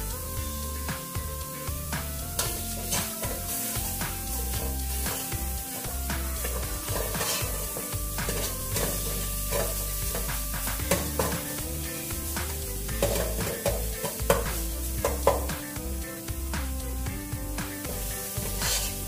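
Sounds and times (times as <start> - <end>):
herb paste sizzling in oil: 0.0 - 19.0
soft background music: 0.0 - 19.0.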